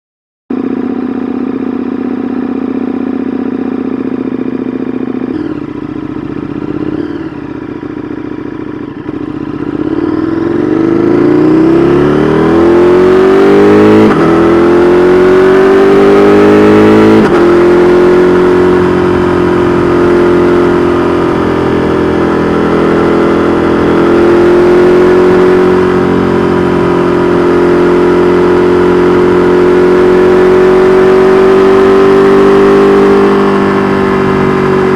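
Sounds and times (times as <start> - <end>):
motorcycle engine accelerating: 0.5 - 34.9.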